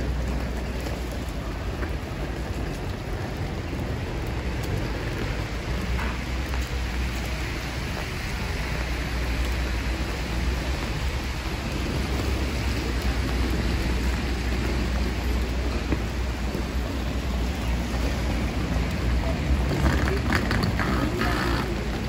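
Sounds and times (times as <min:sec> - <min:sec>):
rain on a wet street: 0:00.0 - 0:22.0.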